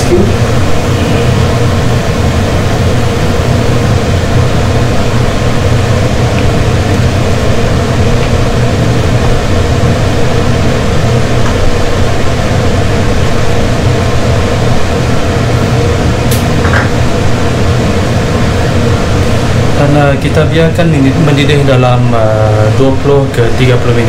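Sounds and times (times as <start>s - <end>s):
loud mechanical hum: 0.0s - 24.0s.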